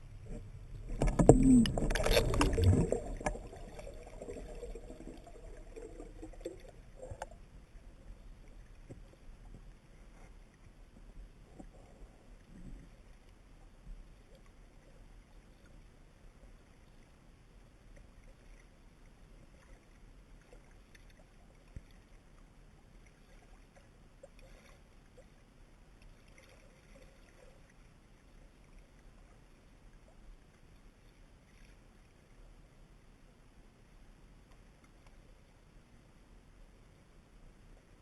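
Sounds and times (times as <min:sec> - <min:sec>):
faint clicks and crackles: 0:00.0 - 0:32.6, 0:34.4 - 0:35.7
faint low rumble: 0:00.0 - 0:38.0.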